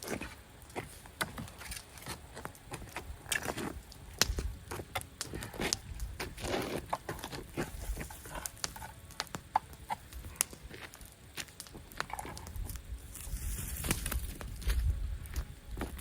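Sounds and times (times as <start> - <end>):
campfire crackling and snapping: 0.0 - 16.0
low fire rumble: 0.0 - 16.0.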